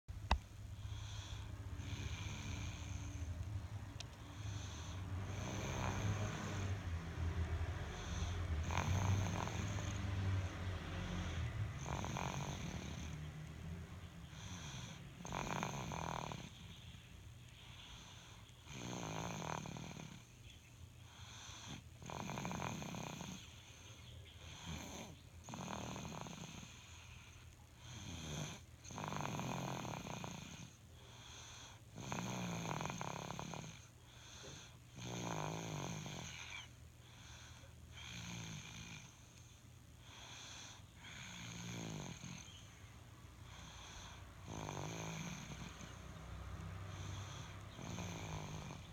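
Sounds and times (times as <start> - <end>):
person snoring: 0.9 - 3.3, 4.3 - 13.4, 14.3 - 16.6, 18.6 - 20.3, 21.2 - 23.4, 24.5 - 26.9, 27.9 - 39.2, 40.1 - 42.6, 43.4 - 48.9.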